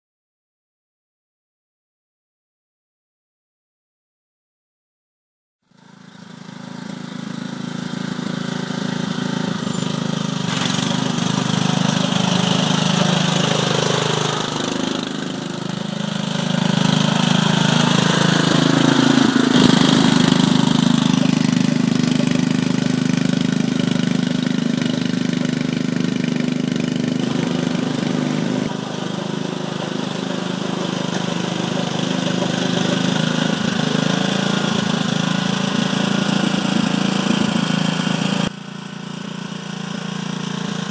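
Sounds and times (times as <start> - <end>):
small petrol engine running: 5.6 - 40.9.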